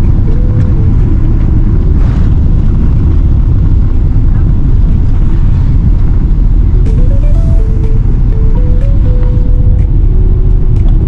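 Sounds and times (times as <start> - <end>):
low rumble inside plane cabin: 0.0 - 11.0.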